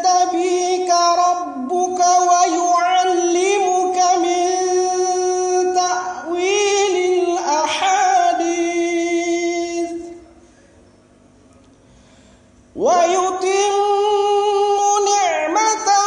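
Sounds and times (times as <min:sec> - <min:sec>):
man chanting melodically: 0:00.0 - 0:10.3, 0:12.8 - 0:16.0.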